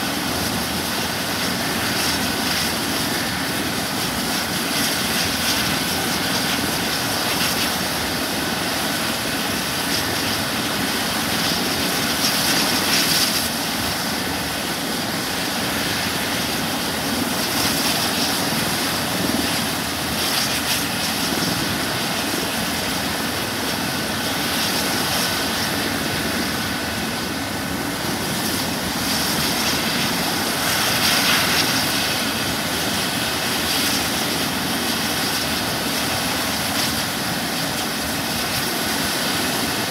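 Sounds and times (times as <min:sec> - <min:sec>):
engine and rotor rush: 0:00.0 - 0:39.9
helicopter turbine whine: 0:00.0 - 0:39.9.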